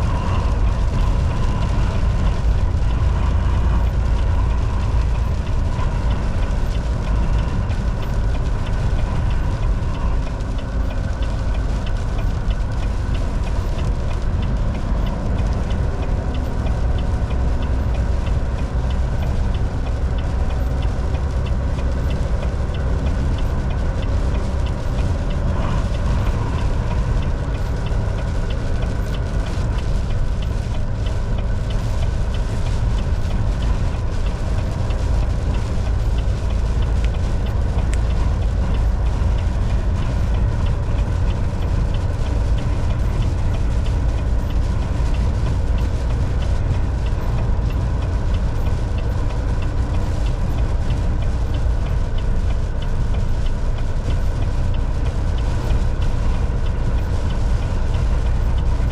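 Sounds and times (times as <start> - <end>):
road noise: 0.0 - 58.9
truck diesel engine drone: 0.0 - 58.9.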